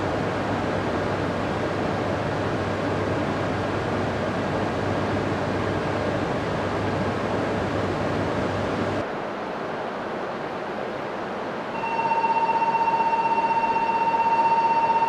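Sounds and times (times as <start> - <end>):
station ambience hiss: 0.0 - 15.0
train equipment whir and hum: 0.0 - 15.0.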